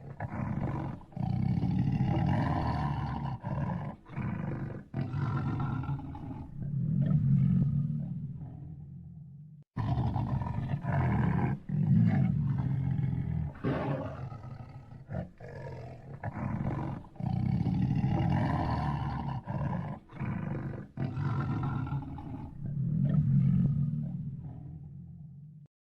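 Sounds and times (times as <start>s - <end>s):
lion roaring: 0.0s - 25.5s.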